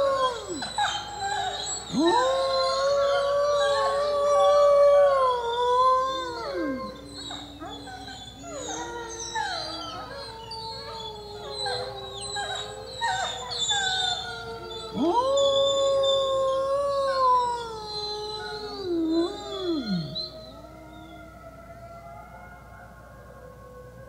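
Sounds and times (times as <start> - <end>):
wolf long howl: 0.0 - 24.0
wolves howling and whining: 0.0 - 24.0.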